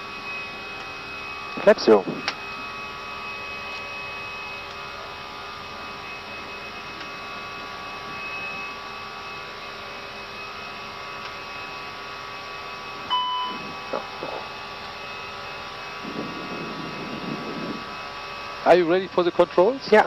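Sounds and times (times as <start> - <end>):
faint whining tones: 0.0 - 20.0
steady hum: 0.0 - 20.0.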